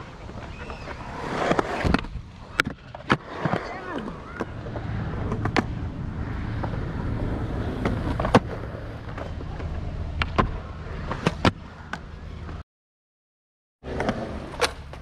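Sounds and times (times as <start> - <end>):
skateboard wheels rumbling: 0.0 - 12.6, 13.8 - 15.0.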